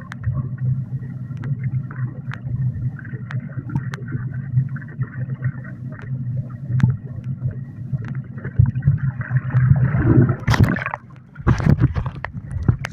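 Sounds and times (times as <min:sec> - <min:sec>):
underwater pool water rumble: 0:00.0 - 0:12.9
splashy bursts with clicks: 0:01.2 - 0:12.9.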